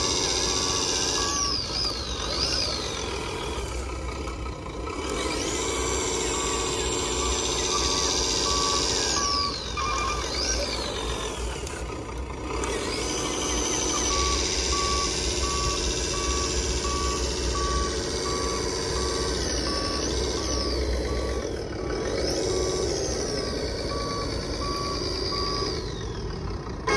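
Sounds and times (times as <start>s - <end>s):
reversing beeper: 0.0s - 4.3s, 4.9s - 26.9s
small electric motors whining: 0.0s - 26.9s.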